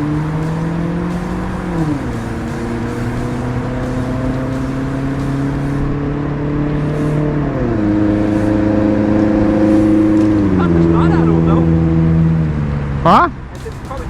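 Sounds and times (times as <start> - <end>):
vehicle engine accelerating: 0.0 - 14.0.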